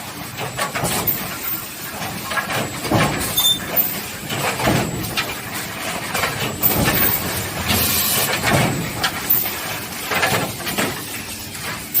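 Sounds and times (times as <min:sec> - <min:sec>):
machine knocks and clatter: 0:00.0 - 0:12.0.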